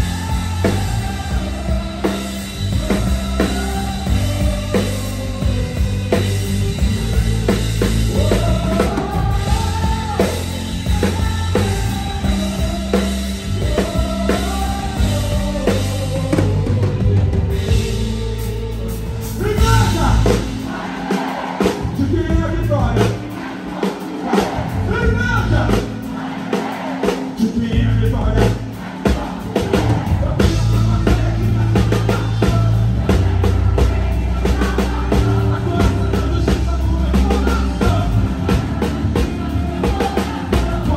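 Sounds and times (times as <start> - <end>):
gospel band playing: 0.0 - 40.9
person singing amplified: 0.0 - 40.9.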